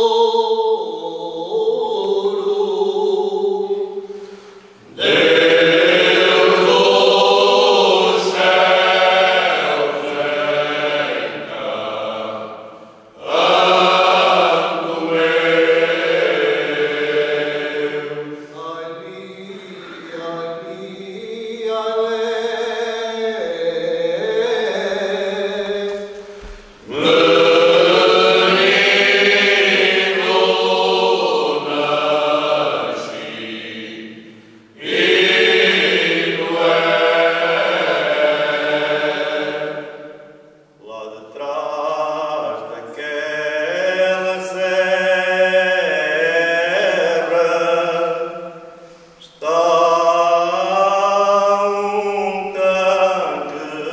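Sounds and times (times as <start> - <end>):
male choir singing unaccompanied: 0.0 - 4.1, 4.8 - 53.9.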